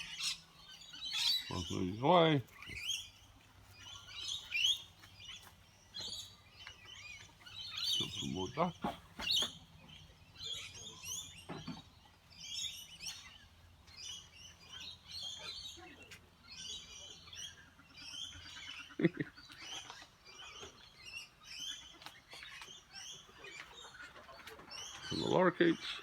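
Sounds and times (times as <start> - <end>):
lorikeets chattering: 0.0 - 26.0.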